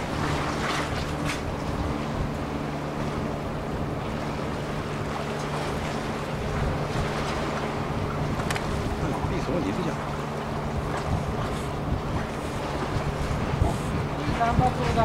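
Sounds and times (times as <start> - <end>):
low engine drone: 0.0 - 15.0
water noise: 0.0 - 15.0
wind: 0.0 - 15.0.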